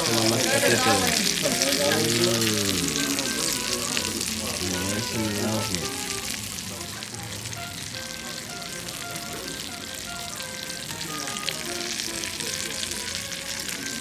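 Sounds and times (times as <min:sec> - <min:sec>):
butter sizzling and crackling: 0:00.0 - 0:14.0.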